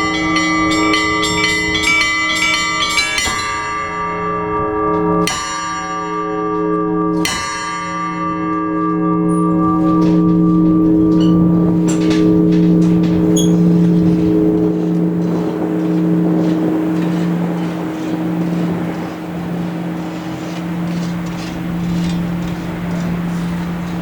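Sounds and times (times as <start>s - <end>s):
heavy bell strikes: 0.0s - 24.0s
small church bells chiming: 0.0s - 24.0s.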